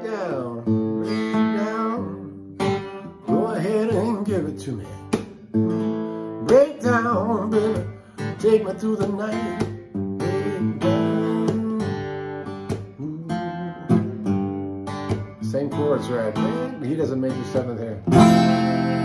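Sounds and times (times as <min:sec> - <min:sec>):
man singing without words: 0:00.0 - 0:02.4, 0:03.2 - 0:05.2, 0:06.4 - 0:12.2, 0:12.8 - 0:14.3, 0:15.4 - 0:19.0
acoustic guitar strumming chords: 0:00.0 - 0:19.0.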